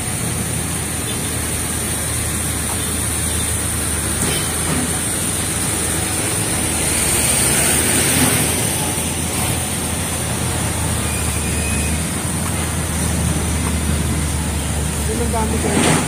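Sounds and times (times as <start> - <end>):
low traffic rumble: 0.0 - 16.0
traffic hiss: 0.0 - 16.0.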